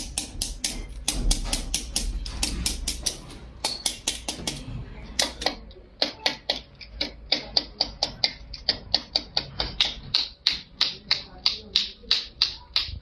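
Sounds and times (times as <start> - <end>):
mallet tapping metal tool: 0.0 - 13.0.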